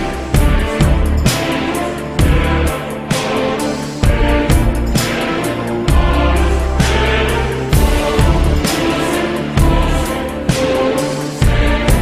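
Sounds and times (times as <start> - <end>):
soundtrack music with heavy beat: 0.0 - 12.0.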